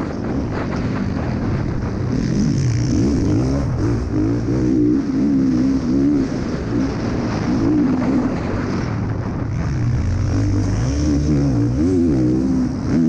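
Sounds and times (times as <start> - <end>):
motocross bike engine revving: 0.0 - 13.0
wind on microphone: 0.0 - 13.0.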